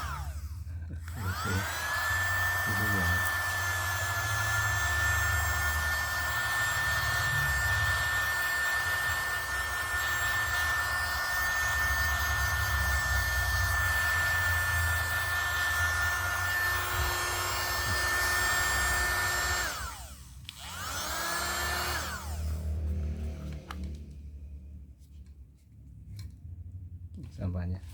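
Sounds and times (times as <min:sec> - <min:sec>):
small vacuum motor whining: 0:00.0 - 0:24.0.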